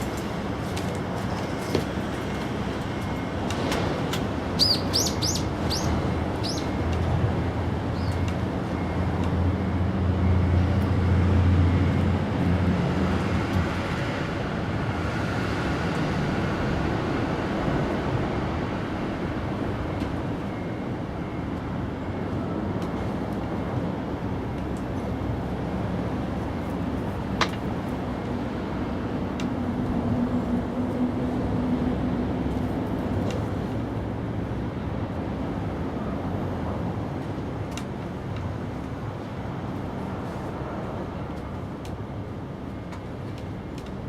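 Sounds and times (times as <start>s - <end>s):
traffic noise: 0.0s - 44.0s.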